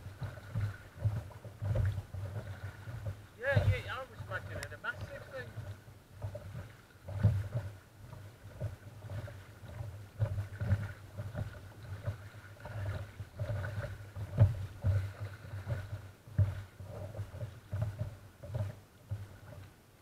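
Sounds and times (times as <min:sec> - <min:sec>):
water lapping against kayak hull: 0:00.0 - 0:20.0
thumps on hull: 0:00.1 - 0:19.6.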